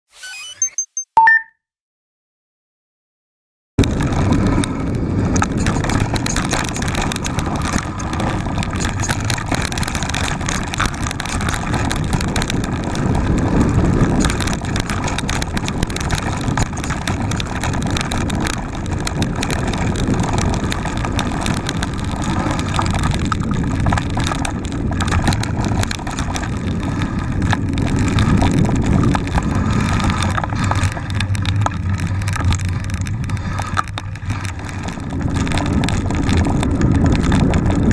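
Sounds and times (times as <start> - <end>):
bike rattling over bumps: 3.8 - 37.9
tyres rolling over dirt: 3.8 - 37.9
wind on microphone: 3.8 - 37.9.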